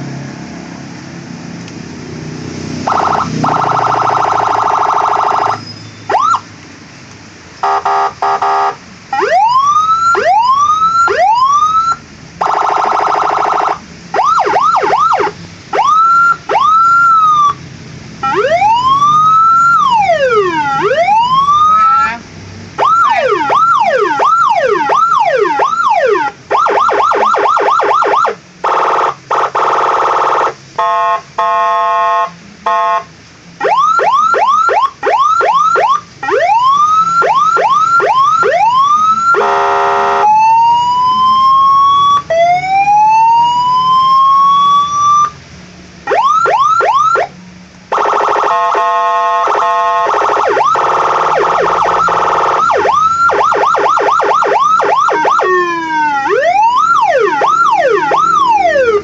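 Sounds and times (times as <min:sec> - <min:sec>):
electronic siren: 0:02.8 - 0:06.5, 0:07.6 - 0:17.6, 0:18.2 - 0:22.2, 0:22.8 - 0:45.4, 0:46.0 - 0:47.3, 0:47.9 - 0:59.0.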